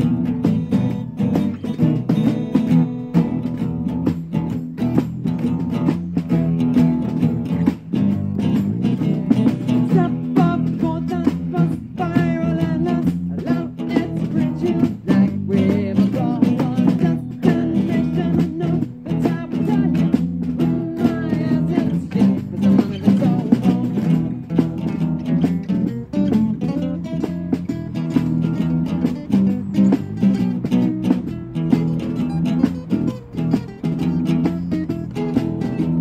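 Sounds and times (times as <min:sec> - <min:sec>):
strummed acoustic guitars: 0:00.0 - 0:36.0.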